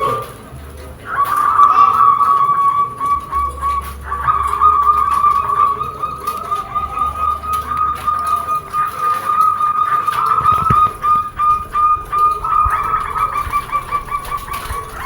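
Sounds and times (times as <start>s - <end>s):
high warbling whistle-like tone: 1.4s - 15.0s.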